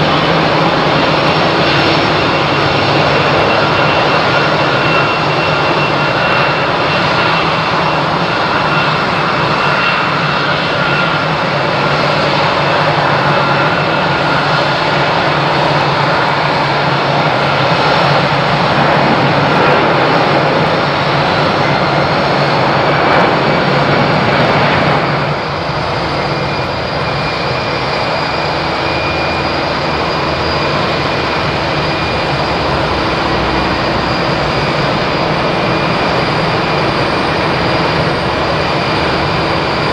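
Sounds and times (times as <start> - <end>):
jet engines with high whine: 0.0 - 39.9.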